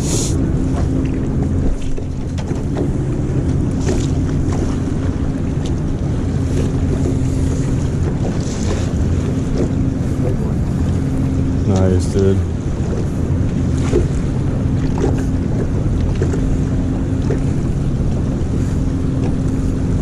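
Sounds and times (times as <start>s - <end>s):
low hum: 0.0s - 20.0s
moving water: 0.0s - 20.0s
wind on microphone: 0.0s - 20.0s.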